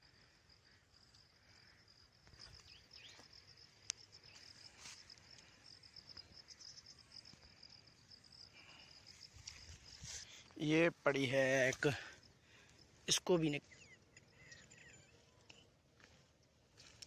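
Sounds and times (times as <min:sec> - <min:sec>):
insect chorus trilling: 0:00.0 - 0:15.6.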